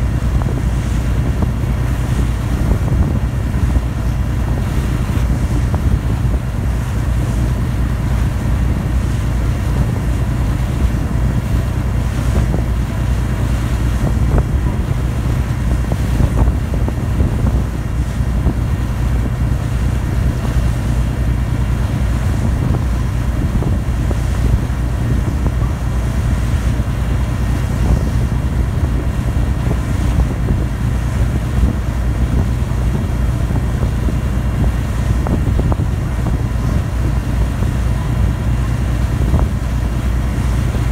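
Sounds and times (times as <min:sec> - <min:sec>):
ship diesel engines rumbling: 0:00.0 - 0:40.9
wind buffeting microphone: 0:00.0 - 0:40.9.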